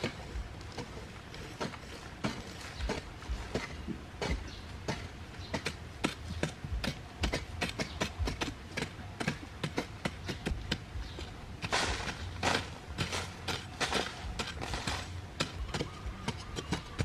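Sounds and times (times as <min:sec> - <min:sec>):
digging blades chipping hard earth: 0:00.0 - 0:17.0
loose soil scraping: 0:00.0 - 0:17.0.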